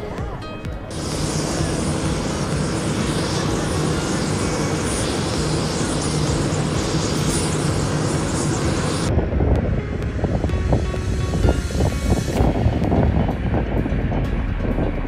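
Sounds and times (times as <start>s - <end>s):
low propeller hum: 0.0s - 15.0s
broad rushing noise: 0.9s - 15.0s
electric airplane flying past: 0.9s - 15.0s.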